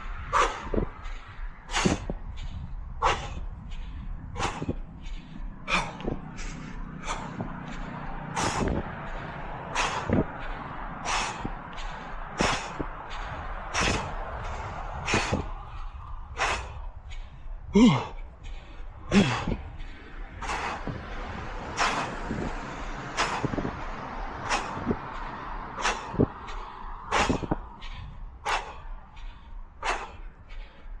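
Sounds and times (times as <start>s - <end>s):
runner breathing heavily: 0.0s - 31.0s.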